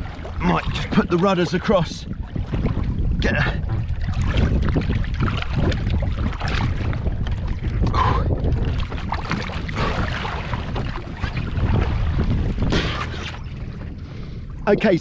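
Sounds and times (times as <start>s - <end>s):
water sloshing against hull: 0.0s - 15.0s
wind buffeting microphone: 0.0s - 15.0s.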